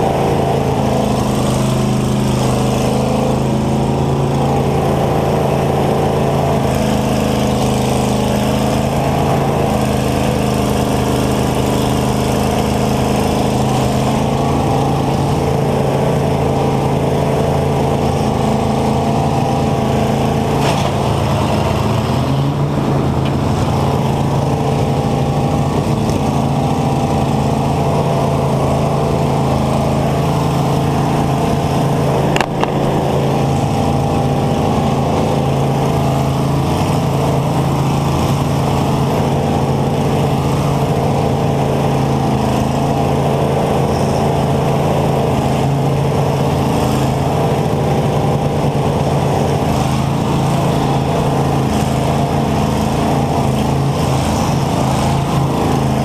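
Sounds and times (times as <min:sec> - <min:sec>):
combine engine running hard: 0:00.0 - 0:56.0.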